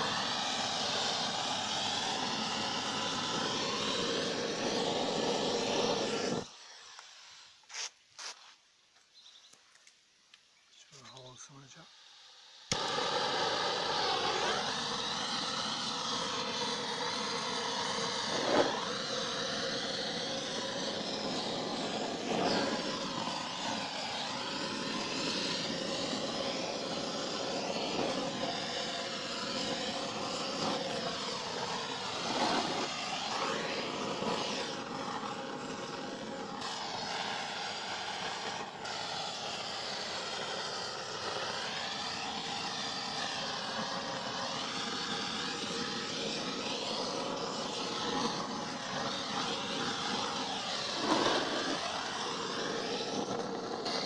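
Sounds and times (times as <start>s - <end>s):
blowtorch flame hissing: 0.0s - 8.5s, 10.9s - 54.0s.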